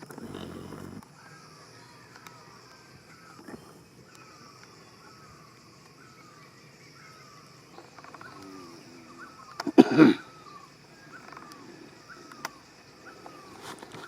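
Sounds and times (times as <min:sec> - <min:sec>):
insect hiss: 0:00.0 - 0:14.0.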